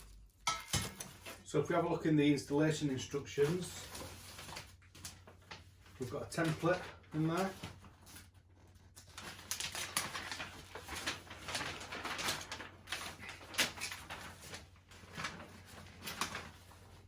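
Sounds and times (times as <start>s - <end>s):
paper rustling and crinkling: 3.0s - 17.0s.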